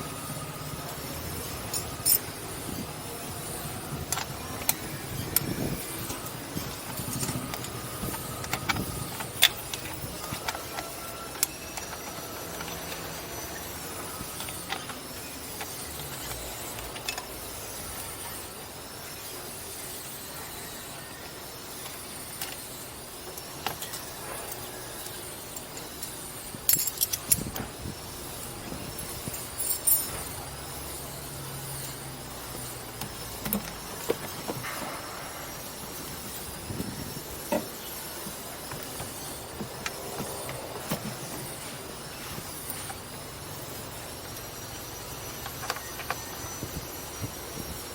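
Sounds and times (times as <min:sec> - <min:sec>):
sharp metallic clicks and clinks: 0:00.0 - 0:47.9.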